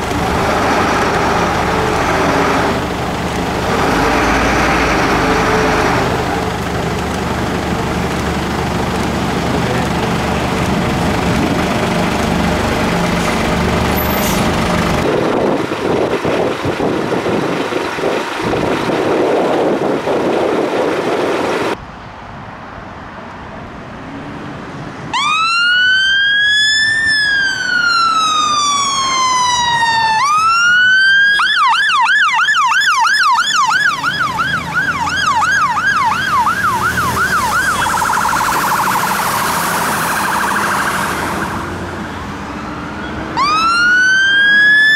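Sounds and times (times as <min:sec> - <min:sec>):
fire engine siren wailing and yelping: 0:00.0 - 0:21.8, 0:25.1 - 0:44.9
vehicle engine and road noise: 0:00.0 - 0:44.9.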